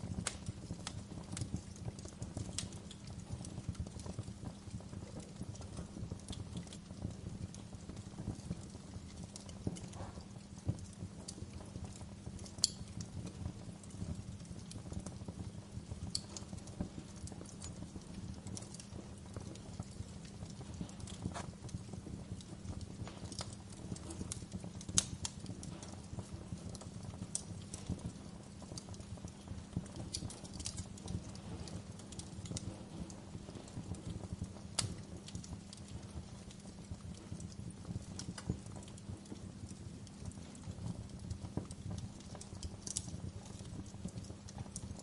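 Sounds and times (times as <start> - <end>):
fireplace fire crackling: 0.0 - 45.0.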